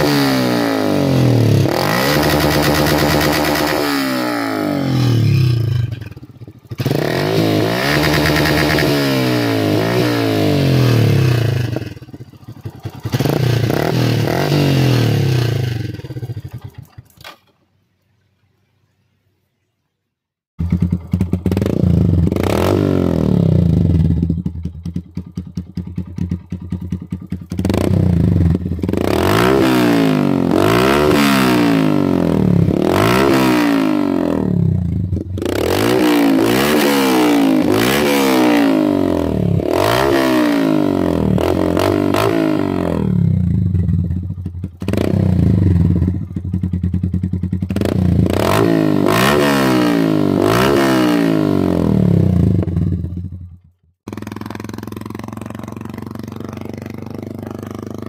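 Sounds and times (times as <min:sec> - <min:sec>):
motorcycle engine revving: 0:00.0 - 0:17.4, 0:20.6 - 0:58.0.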